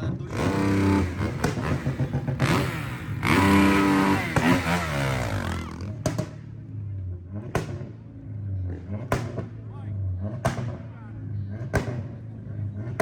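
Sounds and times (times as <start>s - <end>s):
car engine revving hard: 0.0s - 6.4s, 7.2s - 13.0s.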